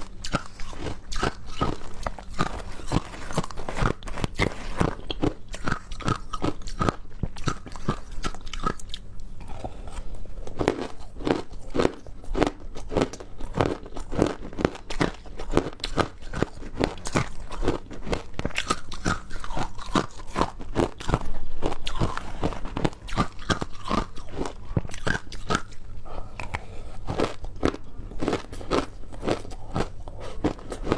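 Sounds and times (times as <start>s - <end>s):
ice being chewed: 0.0s - 30.9s.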